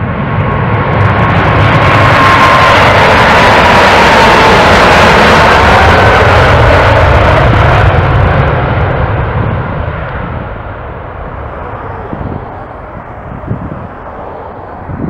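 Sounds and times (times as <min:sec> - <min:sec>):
jet engines roaring at takeoff: 0:00.0 - 0:15.0.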